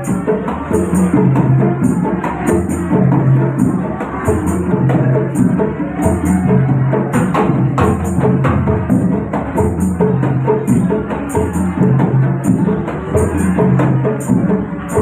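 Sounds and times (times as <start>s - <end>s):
frame drums playing rhythm: 0.0s - 15.0s.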